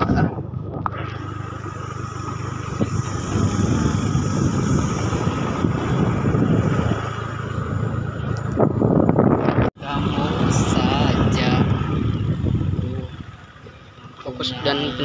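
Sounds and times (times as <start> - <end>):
motorcycle engine running: 0.0 - 15.0
road and wind rush: 0.0 - 15.0.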